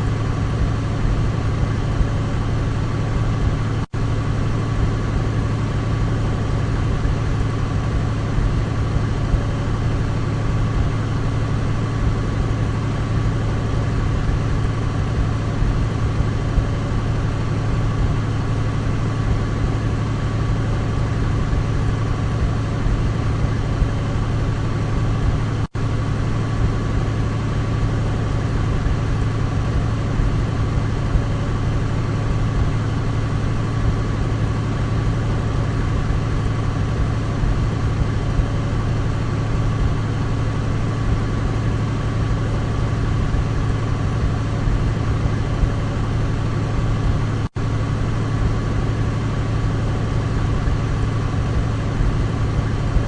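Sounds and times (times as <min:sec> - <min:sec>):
faint steady whine: 0:00.0 - 0:53.0.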